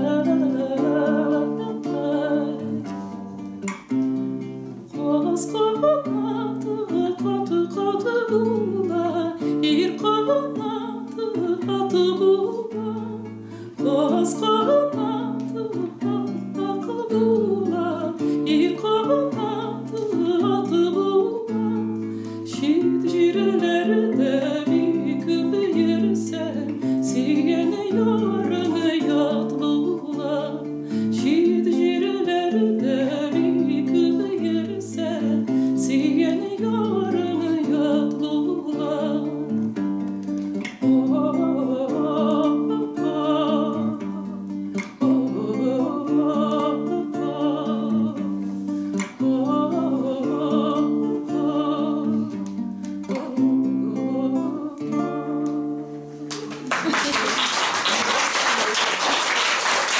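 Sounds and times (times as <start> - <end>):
woman singing: 0.0 - 3.9, 4.7 - 59.9
acoustic guitar: 0.0 - 59.9.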